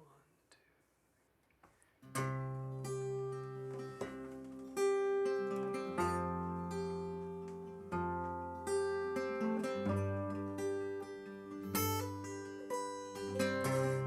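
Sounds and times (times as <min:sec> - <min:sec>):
acoustic guitar picking: 0:02.0 - 0:14.0.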